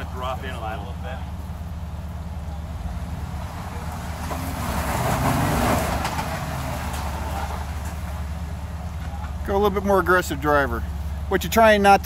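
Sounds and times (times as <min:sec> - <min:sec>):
off-road vehicle engine at low revs: 0:00.0 - 0:12.0.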